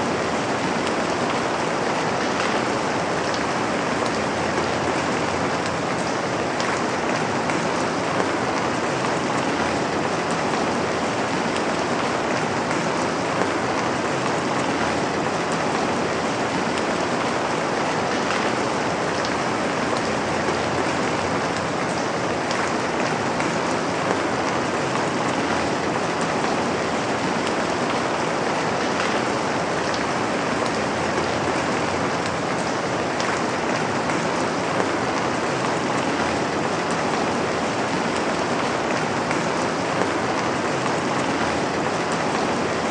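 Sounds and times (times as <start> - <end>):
raindrops pattering: 0.0 - 42.9
steady rain hiss: 0.0 - 42.9.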